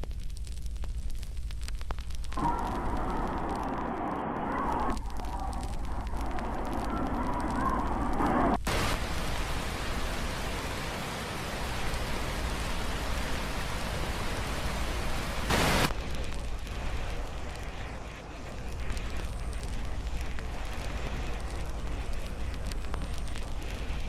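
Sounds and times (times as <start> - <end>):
heavy rain hissing: 2.2 - 24.0.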